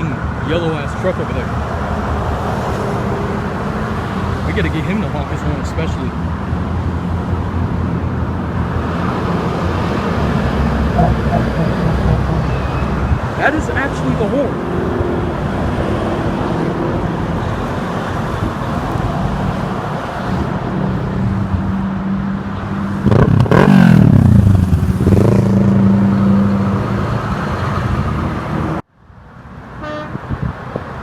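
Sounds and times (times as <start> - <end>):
trucks driving past: 0.0 - 31.0.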